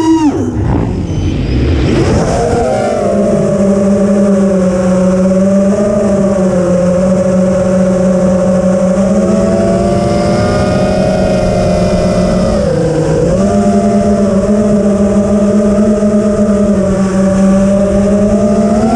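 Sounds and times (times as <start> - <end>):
drone propellers humming: 0.0 - 18.9.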